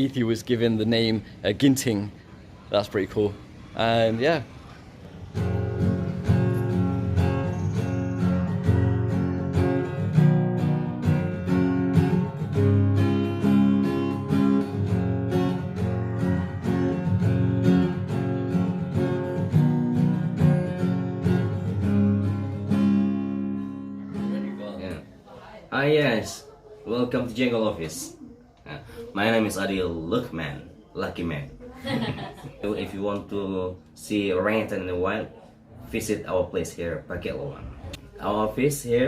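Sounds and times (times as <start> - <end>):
acoustic guitar music: 0.0 - 39.0.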